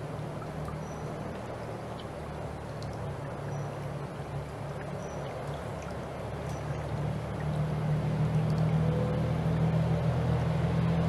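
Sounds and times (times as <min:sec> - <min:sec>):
low engine drone: 0:00.0 - 0:11.0
stream trickling: 0:00.0 - 0:11.0.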